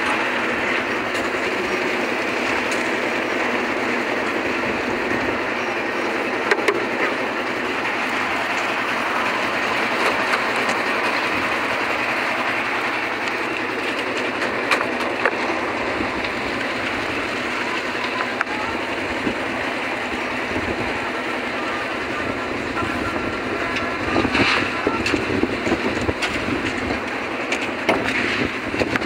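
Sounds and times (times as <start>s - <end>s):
concrete mixer churning: 0.0s - 29.0s.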